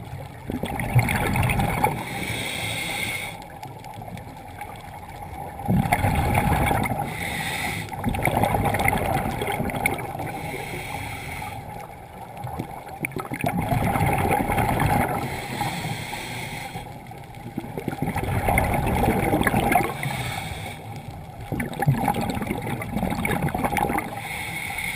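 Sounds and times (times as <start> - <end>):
underwater regulator bubbles gurgling: 0.0 - 24.9.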